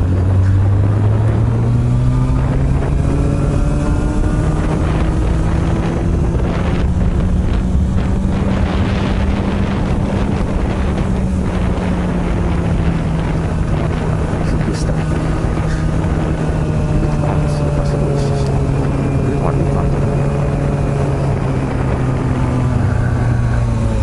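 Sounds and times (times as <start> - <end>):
motorcycle engine accelerating: 0.0 - 24.0
wind rushing over microphone: 0.0 - 24.0.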